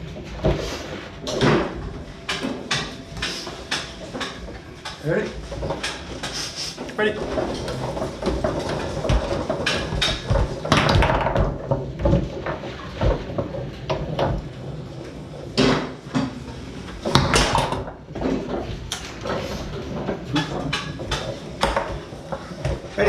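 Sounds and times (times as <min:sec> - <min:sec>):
foosball ball clacking: 0:00.0 - 0:23.0
foosball rods knocking: 0:00.0 - 0:23.0.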